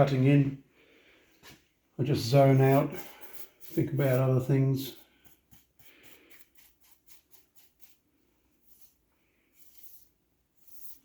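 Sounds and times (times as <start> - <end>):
paintbrush strokes: 2.2 - 11.0.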